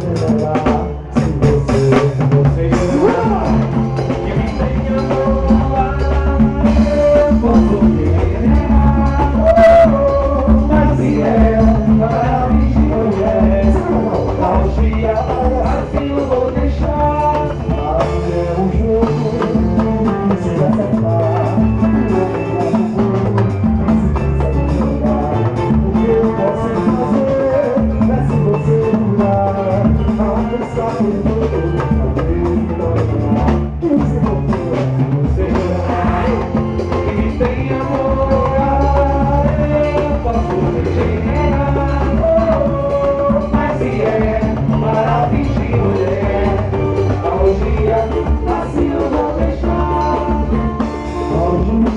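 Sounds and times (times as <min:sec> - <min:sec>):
drums and percussion: 0:00.0 - 0:51.9
live band music: 0:00.0 - 0:51.9
steady bass line: 0:00.0 - 0:51.9.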